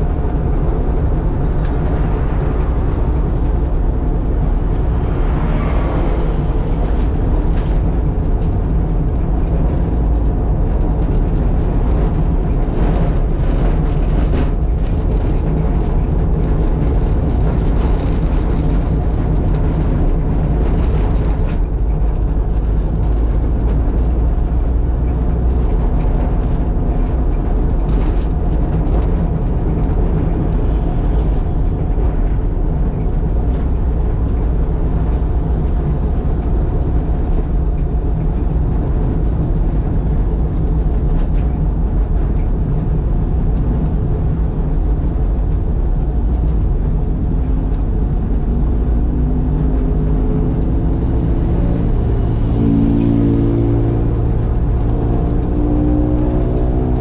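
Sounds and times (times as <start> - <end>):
road noise: 0.0 - 57.0
van engine running: 0.0 - 57.0.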